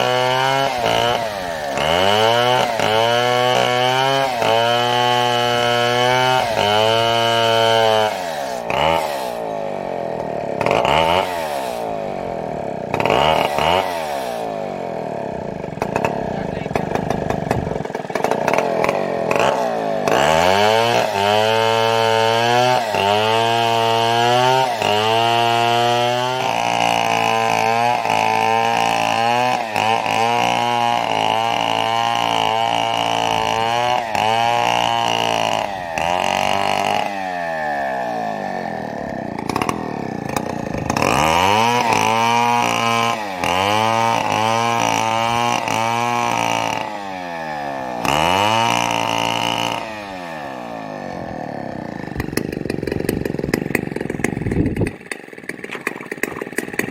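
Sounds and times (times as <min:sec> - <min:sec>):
chainsaw revving while cutting wood: 0:00.0 - 0:56.9.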